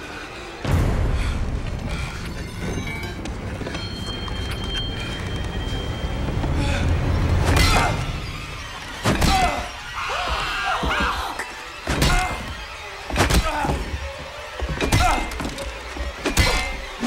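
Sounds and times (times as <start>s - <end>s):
tense music score: 0.0s - 17.0s.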